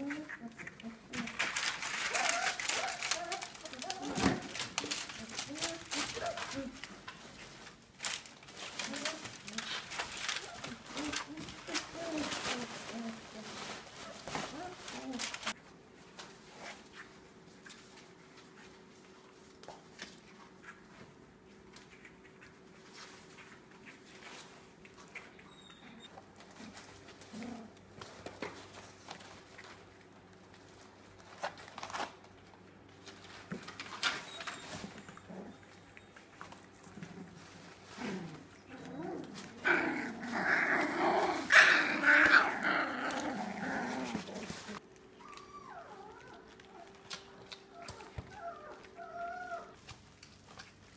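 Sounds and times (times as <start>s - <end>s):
puppies growling: 0.0s - 15.6s, 21.8s - 29.8s, 33.0s - 50.9s.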